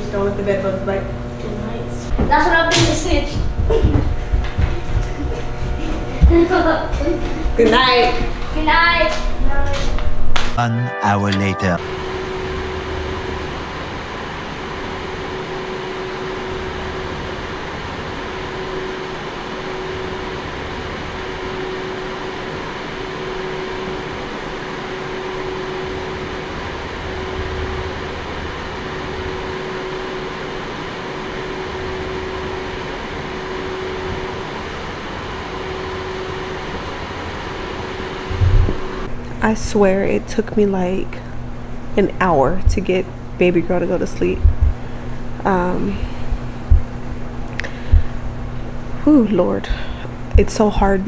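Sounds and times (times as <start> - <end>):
faint steady hum: 0.0 - 10.6, 11.3 - 51.0
fan rushing noise: 0.0 - 10.6, 11.7 - 51.0.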